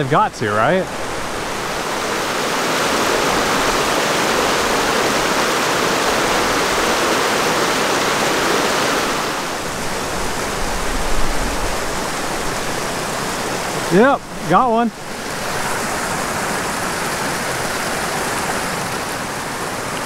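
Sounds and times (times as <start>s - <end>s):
creek rushing over rocks: 0.0s - 20.0s.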